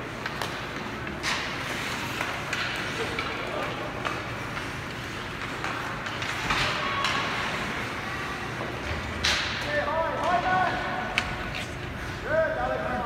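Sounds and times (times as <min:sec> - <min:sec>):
skate blades scraping ice: 0:00.0 - 0:09.3, 0:10.1 - 0:12.3.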